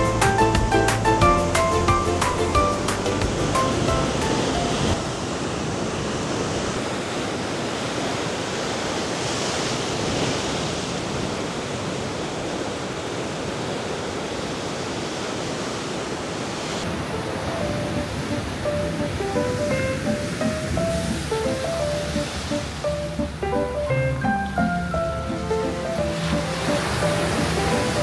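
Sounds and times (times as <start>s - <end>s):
sea waves surging on shore: 0.0s - 28.0s.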